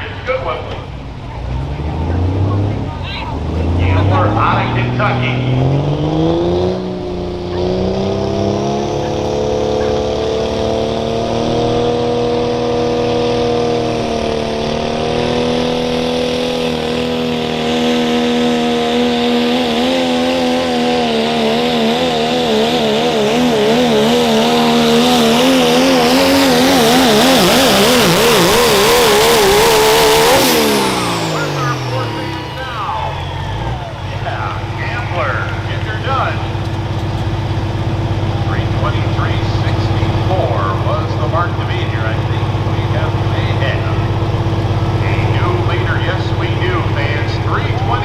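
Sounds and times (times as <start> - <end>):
diesel pickup engine at full throttle: 0.0 - 48.0.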